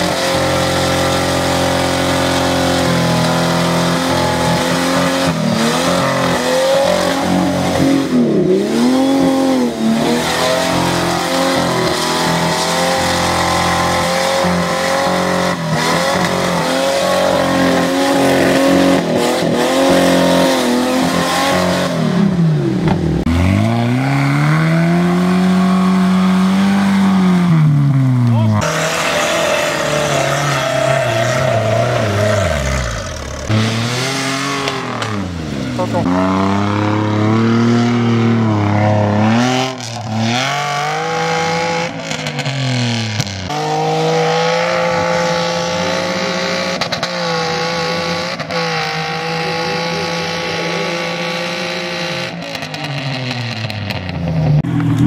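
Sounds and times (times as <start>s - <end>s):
vehicle engine revving hard: 0.0s - 55.0s.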